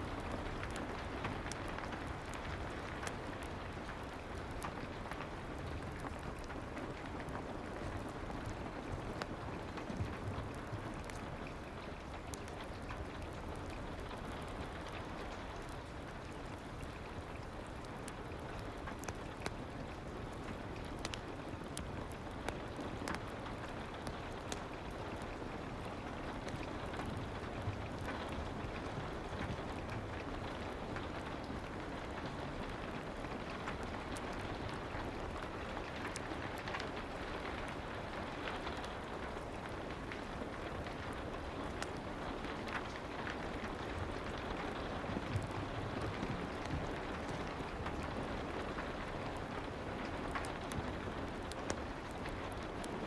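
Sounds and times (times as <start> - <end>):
fireplace crackles: 0.0 - 53.0
soft rain patter: 0.0 - 53.0.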